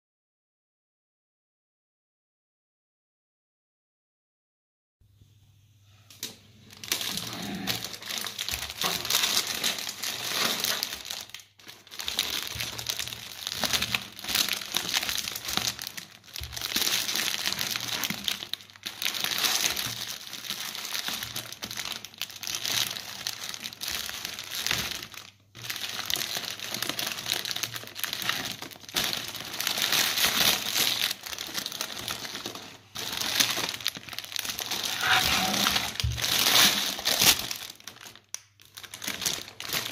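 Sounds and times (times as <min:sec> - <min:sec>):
plastic wrapper crinkling: 0:06.1 - 0:39.9.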